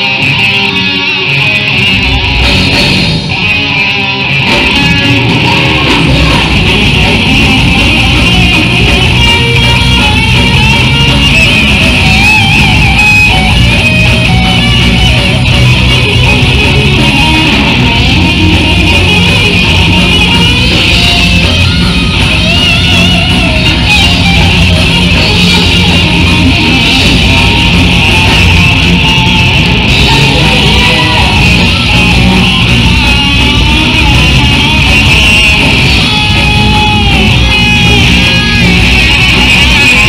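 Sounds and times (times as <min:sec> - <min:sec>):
bass guitar: 0:00.0 - 0:40.0
distorted electric guitars: 0:00.0 - 0:40.0
drums: 0:00.0 - 0:40.0.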